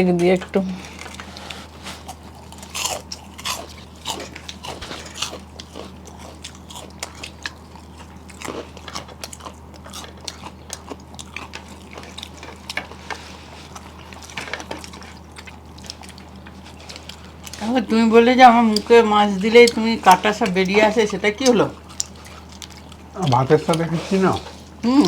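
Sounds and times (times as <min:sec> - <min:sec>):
crunching and chewing crisp papad: 0:00.8 - 0:24.9.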